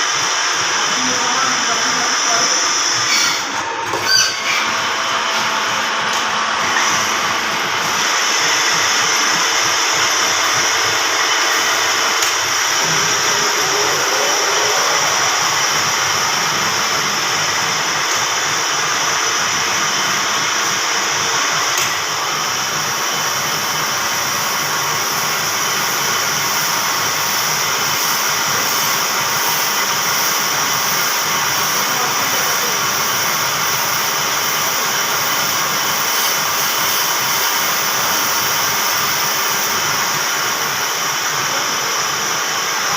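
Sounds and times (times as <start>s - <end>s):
grinding machine hissing: 0.0s - 42.9s.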